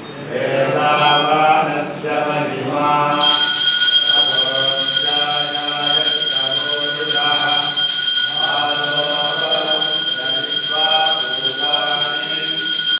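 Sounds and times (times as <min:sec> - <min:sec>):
men chanting: 0:00.3 - 0:12.9
high-pitched electric ringing: 0:00.9 - 0:01.7, 0:03.1 - 0:12.9.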